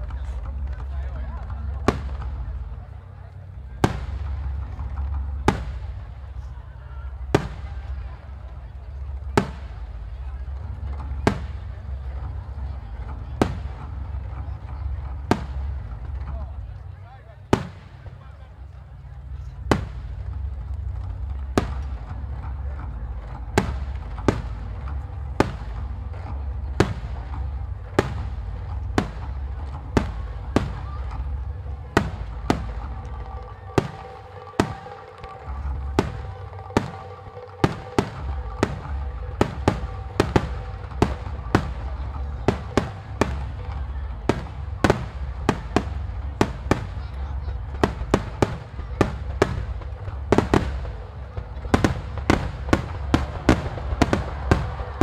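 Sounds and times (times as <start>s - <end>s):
low steady rumble: 0.0s - 55.0s.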